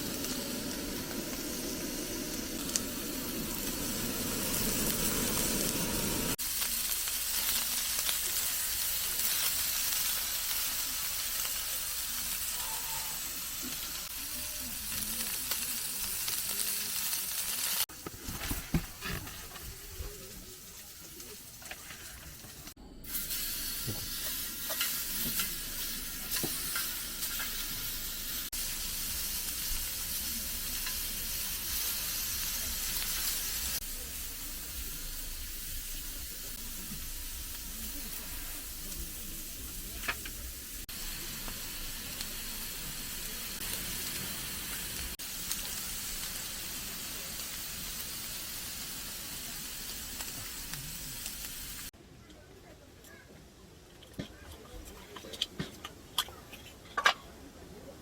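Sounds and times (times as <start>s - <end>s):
food sizzling: 0.0s - 52.0s.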